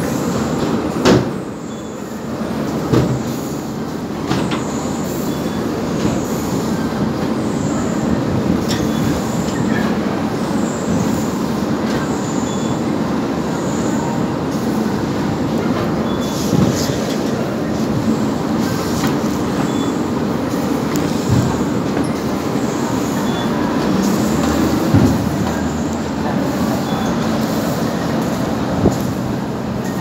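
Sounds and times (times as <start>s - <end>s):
conveyor rumbling and rattling: 0.0s - 30.0s.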